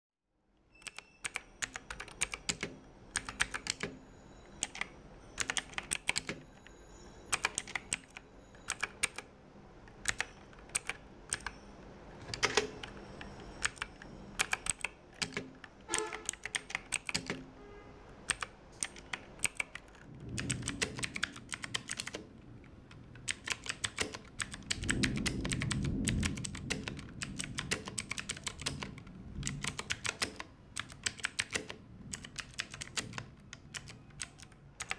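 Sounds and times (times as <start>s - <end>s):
mechanical keyboard key clicks: 0.8s - 4.0s, 4.6s - 6.4s, 7.3s - 9.3s, 9.9s - 11.6s, 12.2s - 17.4s, 18.3s - 34.9s.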